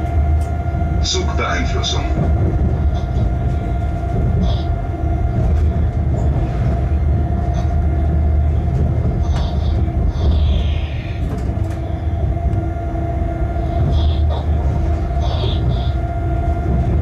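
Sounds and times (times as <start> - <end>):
locomotive rumble with whine: 0.0 - 17.0.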